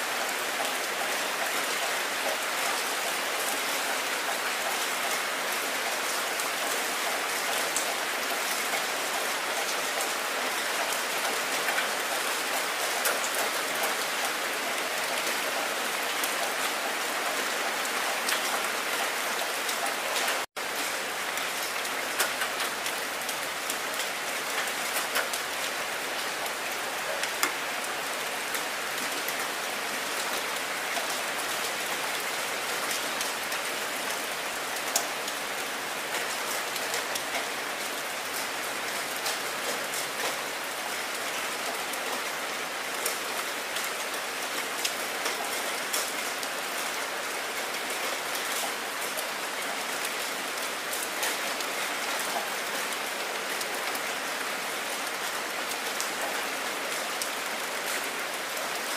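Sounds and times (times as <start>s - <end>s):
heavy rain on wet ground: 0.0s - 58.9s.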